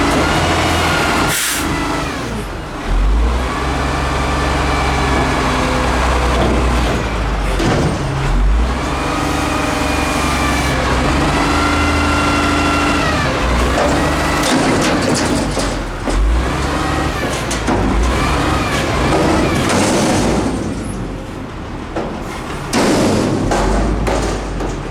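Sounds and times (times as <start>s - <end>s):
truck engine revving: 0.0s - 20.8s.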